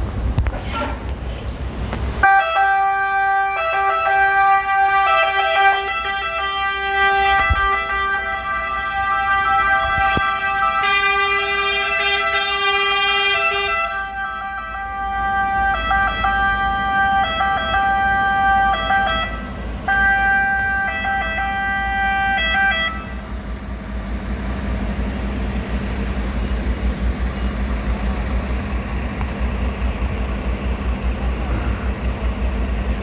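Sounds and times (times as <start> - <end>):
fire engine sirens and horns: 0.4 - 1.2, 2.2 - 33.0
low engine rumble: 4.5 - 33.0.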